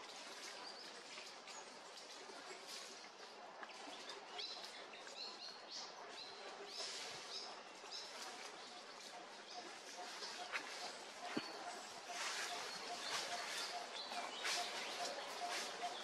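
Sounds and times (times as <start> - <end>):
steady outdoor hiss: 0.0 - 16.0
small birds chirping: 0.1 - 16.0.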